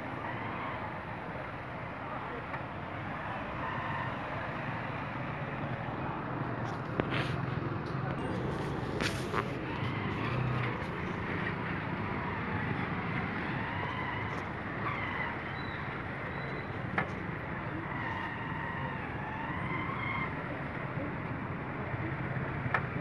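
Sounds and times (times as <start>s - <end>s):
faint distant voices: 0.0s - 23.0s
steady road hum: 0.0s - 23.0s
vehicle engines idling: 0.0s - 23.0s.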